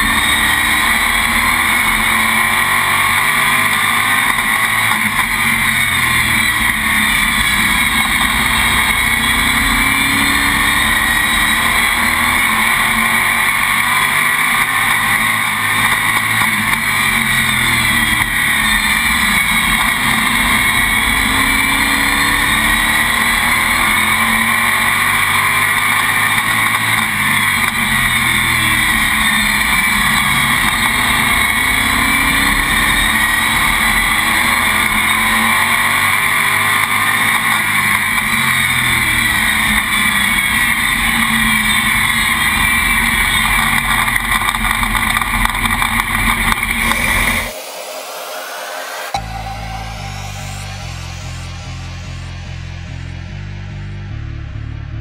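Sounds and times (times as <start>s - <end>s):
race car engine revving: 0.0s - 55.0s
steady rushing noise: 0.0s - 55.0s.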